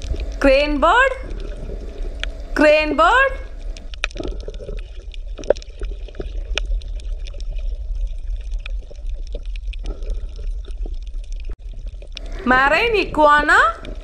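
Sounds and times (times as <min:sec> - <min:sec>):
steady low rumble: 0:00.0 - 0:05.0, 0:06.6 - 0:14.0
water gurgling and trickling: 0:00.0 - 0:14.0.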